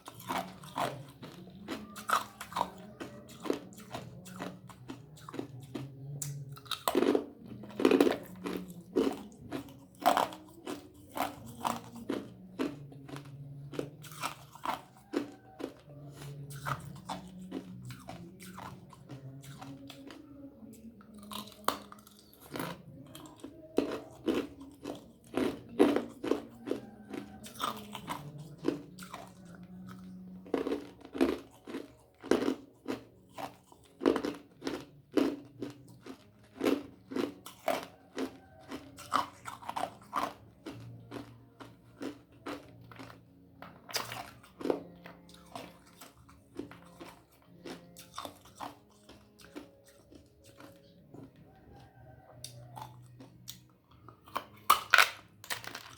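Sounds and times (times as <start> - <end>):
ice crunched between teeth: 0.0 - 20.2, 21.2 - 43.2, 43.9 - 50.9, 54.3 - 55.9.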